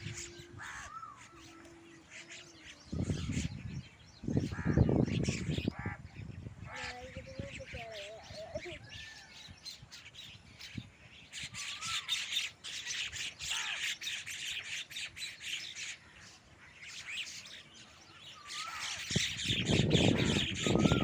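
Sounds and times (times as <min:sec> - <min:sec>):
flock of birds chirping: 0:00.0 - 0:21.0
lower-pitched bird calls: 0:00.0 - 0:21.0.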